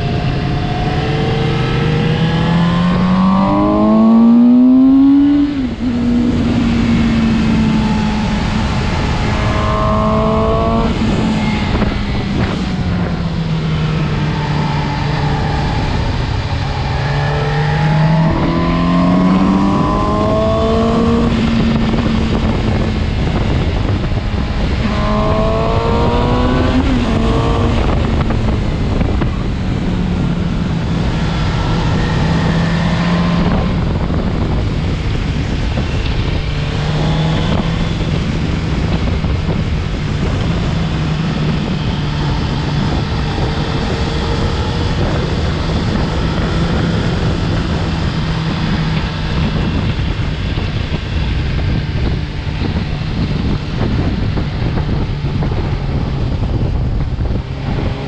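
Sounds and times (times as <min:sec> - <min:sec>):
motorcycle engine running: 0:00.0 - 0:58.0
wind rush: 0:00.0 - 0:58.0.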